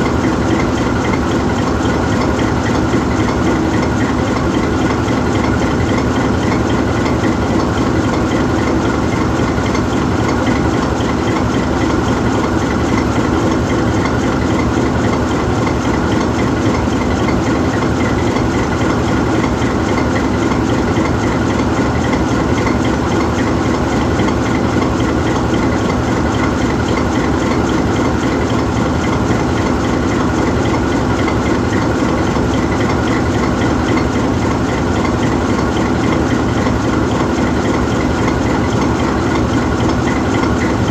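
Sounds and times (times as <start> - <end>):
diesel locomotive engine idling: 0.0 - 40.9.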